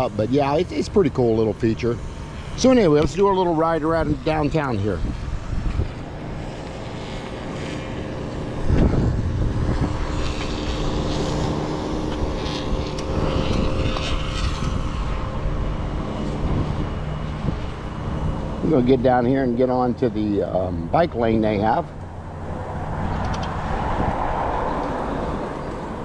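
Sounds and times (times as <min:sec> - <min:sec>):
wind rumbling over microphone: 0:00.1 - 0:20.0, 0:20.8 - 0:26.0.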